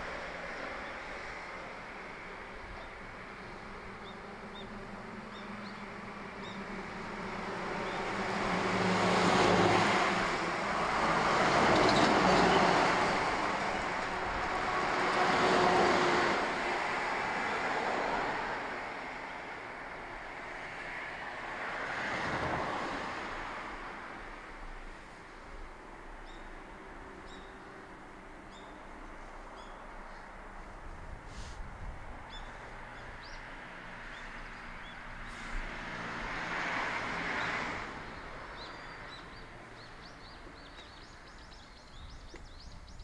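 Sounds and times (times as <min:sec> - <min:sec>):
vehicles passing: 0:00.0 - 0:43.0.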